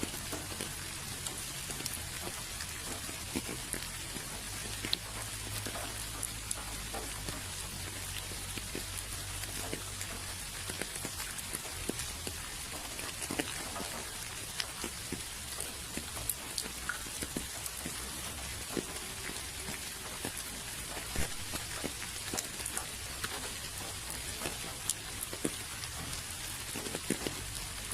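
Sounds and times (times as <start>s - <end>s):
rain drops ticking on hard surface: 0.0s - 27.9s.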